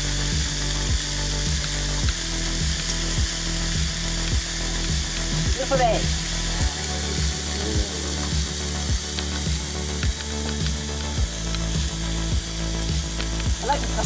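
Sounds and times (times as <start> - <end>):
peppers sizzling on grill: 0.0 - 14.0
regular low beat: 0.0 - 14.0.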